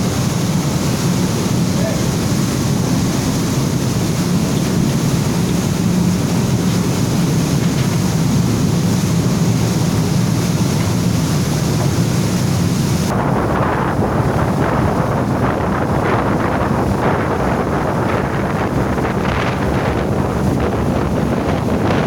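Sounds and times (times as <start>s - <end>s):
ferry engine hum: 0.0s - 22.0s
rush of water and wind: 0.0s - 22.0s.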